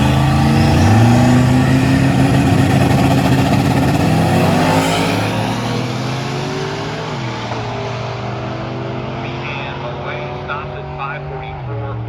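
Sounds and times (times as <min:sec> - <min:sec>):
race cars at full throttle: 0:00.0 - 0:12.0.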